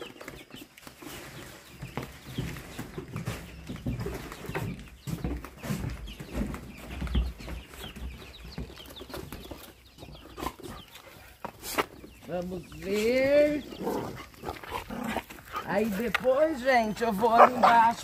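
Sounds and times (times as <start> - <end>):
chickens clucking and chirping: 0.0 - 18.0.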